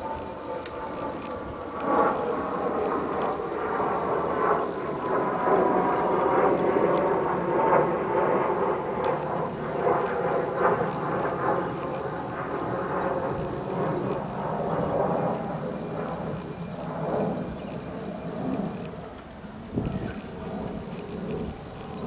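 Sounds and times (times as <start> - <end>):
steady engine drone: 0.0 - 22.0.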